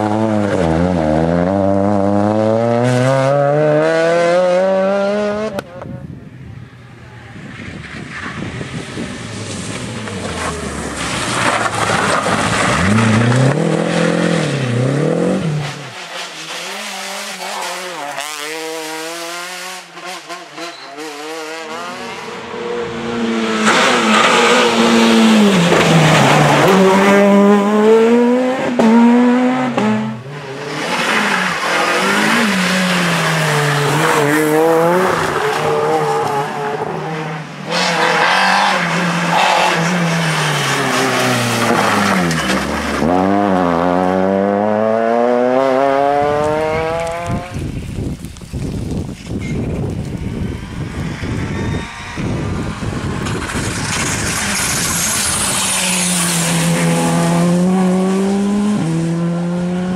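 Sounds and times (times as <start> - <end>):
rally car engines revving: 0.0 - 6.0, 7.0 - 59.9.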